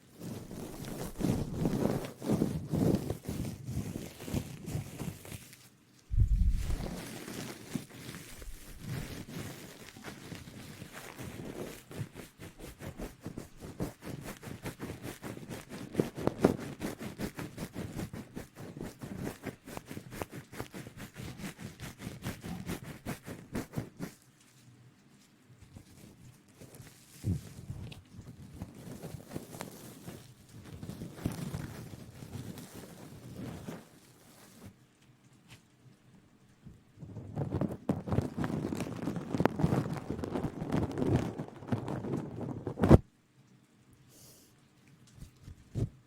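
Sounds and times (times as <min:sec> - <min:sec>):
asmr rustling and scratching: 0:00.0 - 0:35.8, 0:37.1 - 0:43.1.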